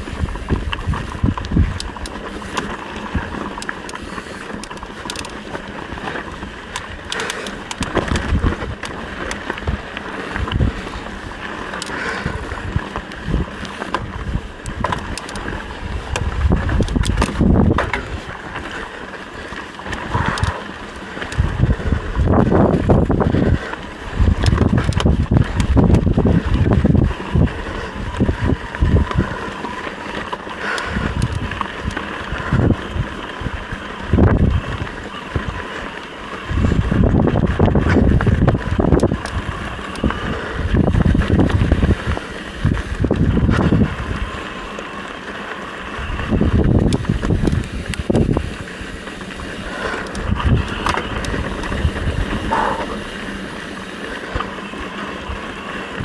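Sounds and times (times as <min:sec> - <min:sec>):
wind buffeting microphone: 0:00.0 - 0:45.0, 0:45.8 - 0:56.0.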